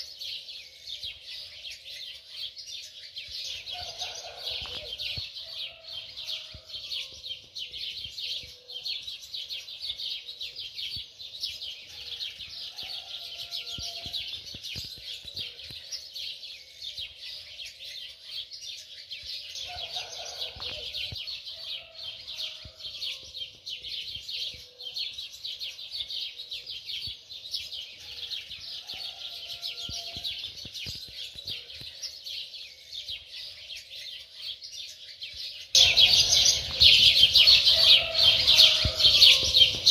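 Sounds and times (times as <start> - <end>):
birds twittering chorus: 0.0 - 39.9.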